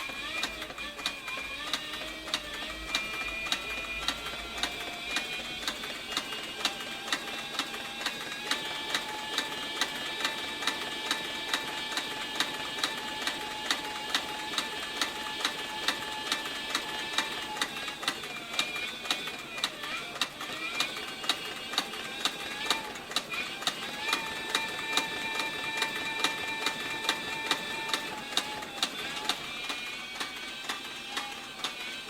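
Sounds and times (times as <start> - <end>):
sewing machine motor whine: 0.0 - 32.0.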